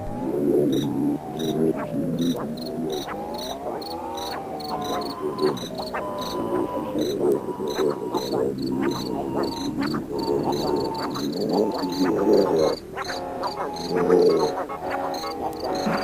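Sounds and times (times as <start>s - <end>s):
frogs calling: 0.1s - 16.0s
insect high chirp: 0.7s - 16.0s.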